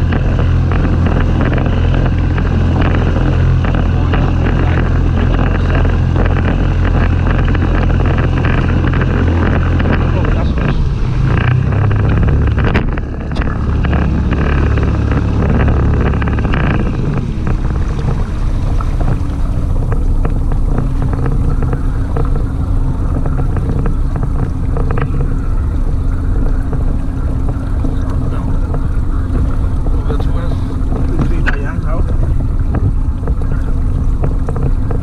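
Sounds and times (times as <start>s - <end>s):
outboard motor running: 0.0s - 35.0s
water noise: 0.0s - 35.0s
wind noise: 0.0s - 35.0s.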